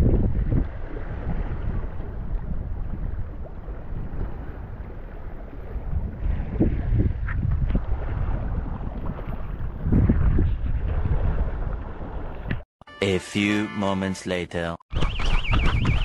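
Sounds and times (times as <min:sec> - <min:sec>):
wind buffeting microphone: 0:00.0 - 0:12.6, 0:14.9 - 0:16.0.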